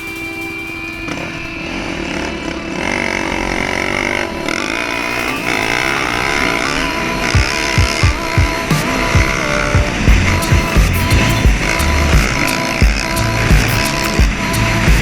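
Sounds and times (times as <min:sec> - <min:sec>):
dirt bike engine revving: 0:00.0 - 0:15.0
held synth tones: 0:00.0 - 0:15.0.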